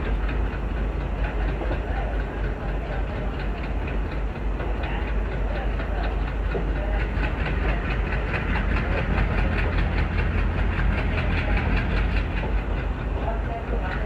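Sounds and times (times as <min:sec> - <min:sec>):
diesel locomotive engine chugging: 0:00.0 - 0:14.0
quick rhythmic clatter: 0:00.0 - 0:14.0
train wheels on rails: 0:00.0 - 0:14.0.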